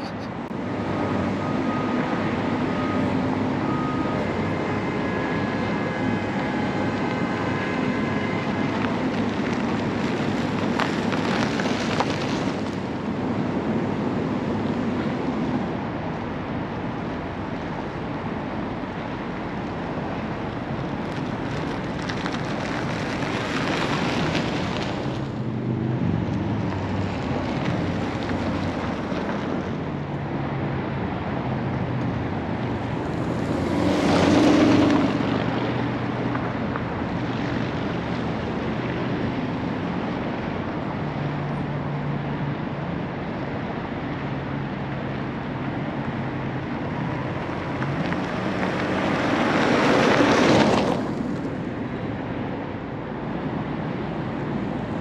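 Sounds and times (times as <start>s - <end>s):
car engine driving: 0.0s - 44.2s, 45.3s - 55.0s.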